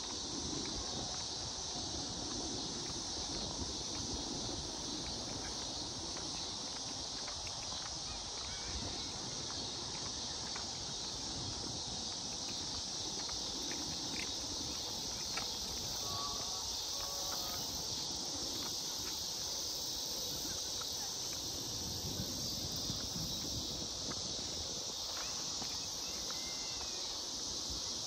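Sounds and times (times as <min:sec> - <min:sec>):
high insect chorus: 0:00.0 - 0:28.0.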